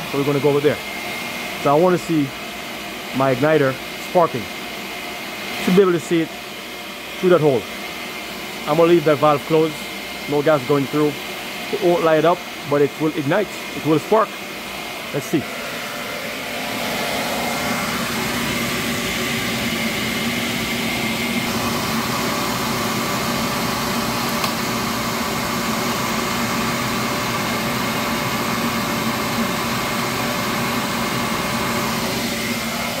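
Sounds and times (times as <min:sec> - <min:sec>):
burner blower running: 0:00.0 - 0:33.0.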